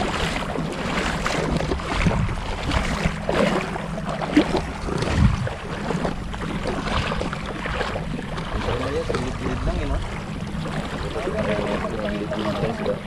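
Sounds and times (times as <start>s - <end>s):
people wading in water: 0.0s - 13.0s.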